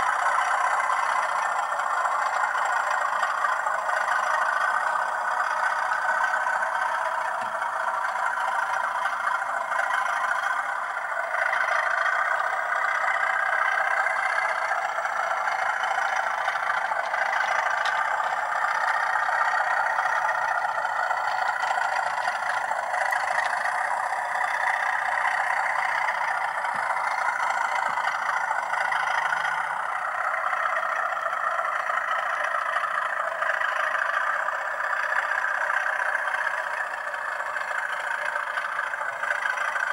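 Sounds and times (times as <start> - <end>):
thin diesel engine sound from speaker: 0.0 - 39.9.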